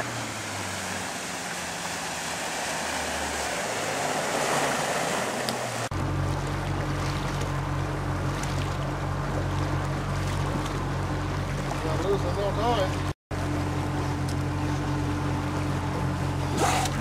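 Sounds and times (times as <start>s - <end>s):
boat engine low drone: 0.0s - 17.0s
motorboat passing at speed: 0.0s - 17.0s
rushing boat wake: 0.0s - 17.0s.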